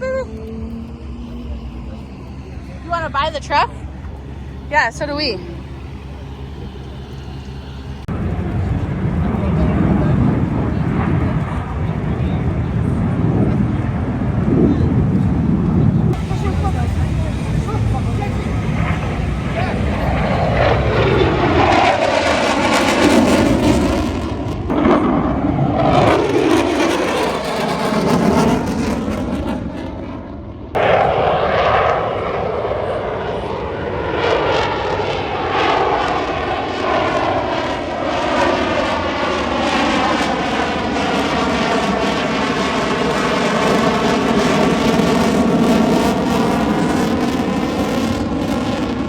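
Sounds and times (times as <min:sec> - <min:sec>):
aircraft flying overhead: 0:00.0 - 0:49.0.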